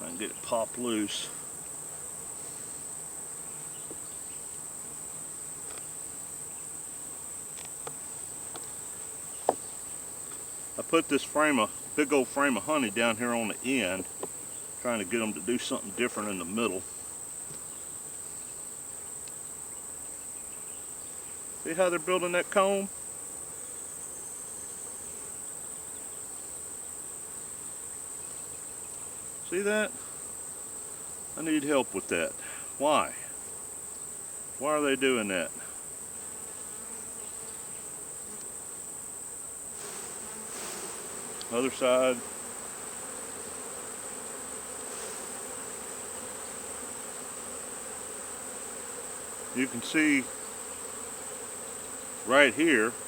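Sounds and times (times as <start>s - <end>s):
bees humming: 0.0s - 53.0s
honeybees buzzing: 0.0s - 53.0s.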